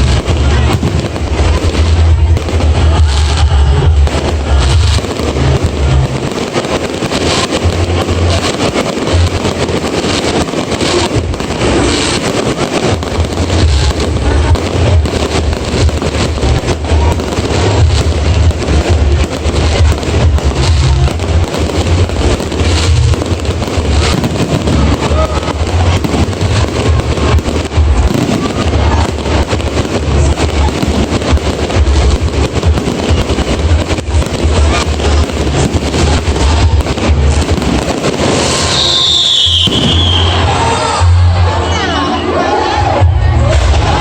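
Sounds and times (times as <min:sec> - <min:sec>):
fireworks cracking and booming: 0:00.0 - 0:44.0
music playing: 0:00.0 - 0:44.0.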